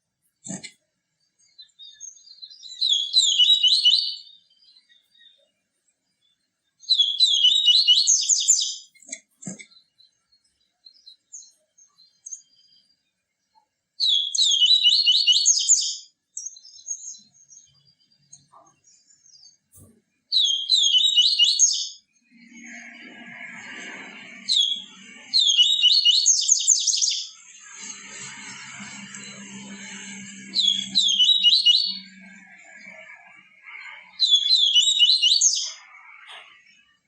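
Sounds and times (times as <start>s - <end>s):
bird song rapid high notes: 1.3s - 5.5s, 6.2s - 37.0s.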